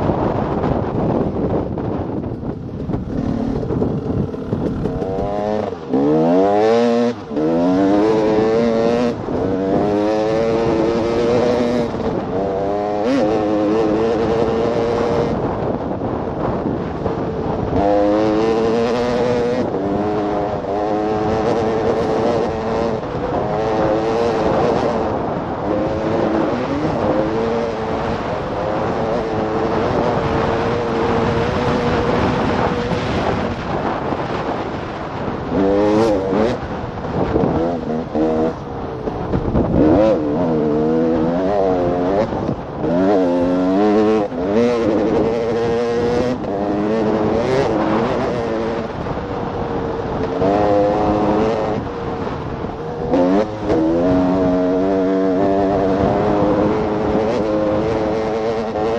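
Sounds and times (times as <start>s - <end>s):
two-stroke engine running hard: 0.0s - 58.9s.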